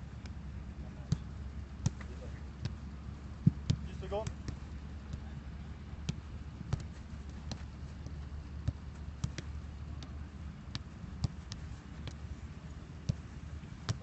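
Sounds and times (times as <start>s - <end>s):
steady low rumble: 0.0s - 14.0s
footballs kicked thudding: 1.0s - 14.0s.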